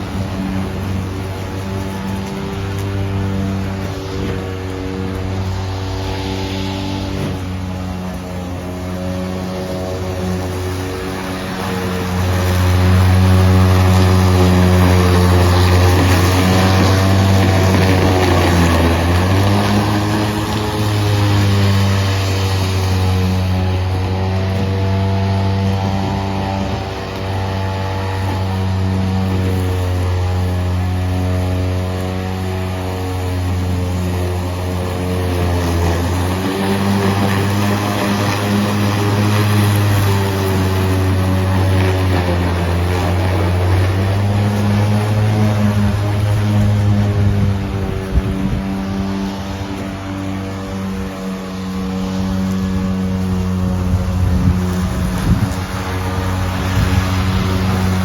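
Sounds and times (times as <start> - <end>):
lawn mower humming: 0.0 - 58.0
rough rushing noise: 0.0 - 58.0.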